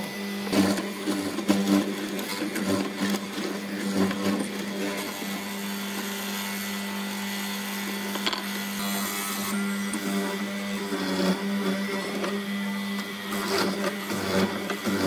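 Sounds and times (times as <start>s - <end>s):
chisel cutting into wood: 0.0s - 15.0s
mortiser motor hum: 0.0s - 15.0s.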